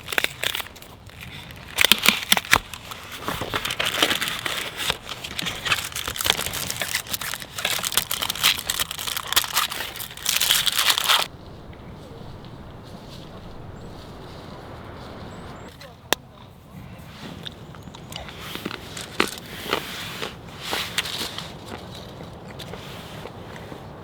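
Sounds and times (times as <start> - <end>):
crinkly material crumpling: 0.0 - 15.9, 18.0 - 23.8.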